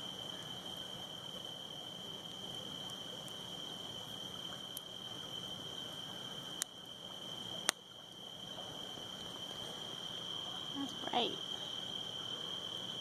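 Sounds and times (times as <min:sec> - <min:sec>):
faint campfire crackle: 0:00.0 - 0:13.0
insects trilling: 0:00.0 - 0:13.0
low hiss: 0:00.0 - 0:13.0.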